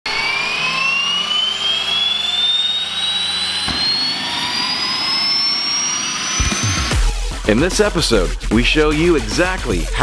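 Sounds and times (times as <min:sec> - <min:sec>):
low hum: 0:00.1 - 0:08.4
turbine engine whine rising: 0:00.1 - 0:09.4.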